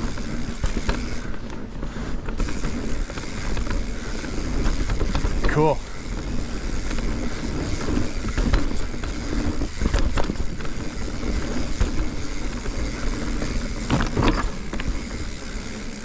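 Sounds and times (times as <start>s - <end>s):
bike rattling over bumps: 0.0s - 16.0s
bike tyre rumble on dirt: 0.0s - 16.0s.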